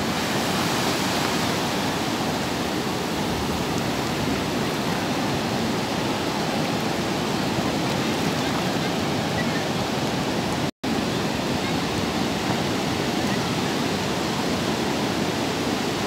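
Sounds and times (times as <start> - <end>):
sea surf breaking: 0.0 - 16.0.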